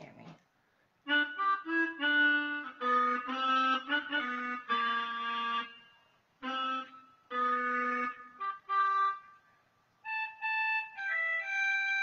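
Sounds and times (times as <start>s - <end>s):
electronic wind instrument notes: 1.1s - 12.0s.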